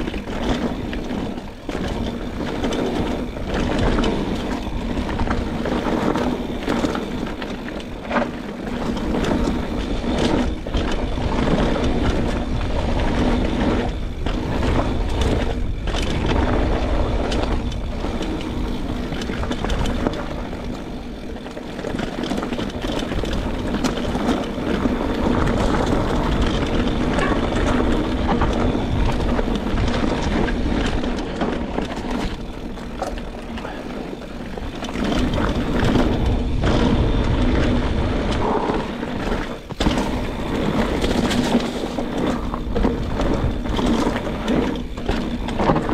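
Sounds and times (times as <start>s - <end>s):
wind on microphone: 0.0s - 21.1s, 22.6s - 45.9s
bike clattering with sharp knocks: 0.0s - 45.9s
tyres rumbling over dirt: 0.0s - 45.9s.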